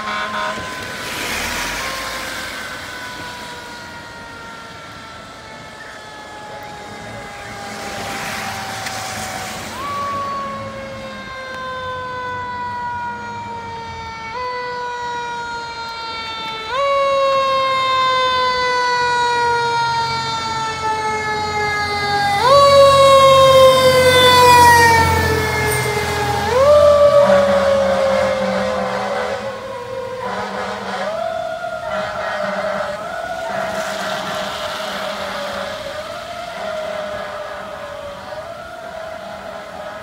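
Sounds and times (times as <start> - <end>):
fire engine siren: 0.0 - 40.0
truck engine rumbling: 0.0 - 40.0.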